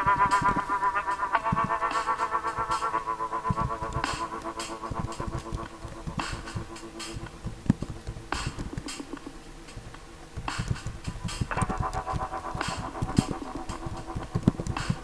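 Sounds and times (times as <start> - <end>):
keyboard typing: 0.0 - 15.0
synthesizer music: 0.0 - 15.0.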